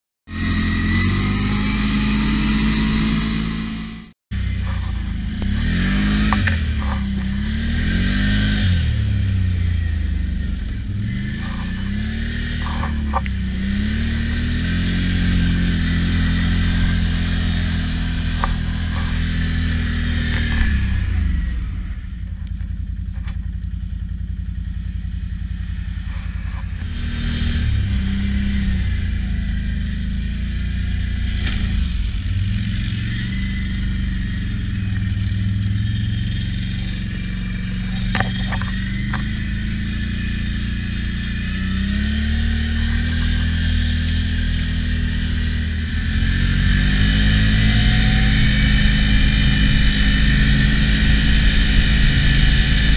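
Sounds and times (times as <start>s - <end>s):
atv engine revving: 0.3s - 52.9s
engine-like sound: 0.3s - 52.9s.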